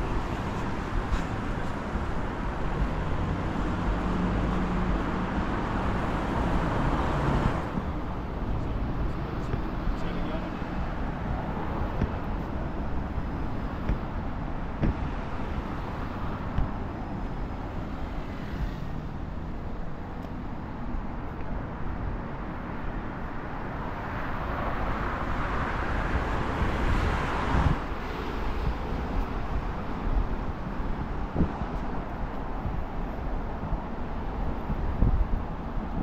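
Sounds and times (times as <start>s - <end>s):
rumble of road traffic: 0.0s - 36.0s.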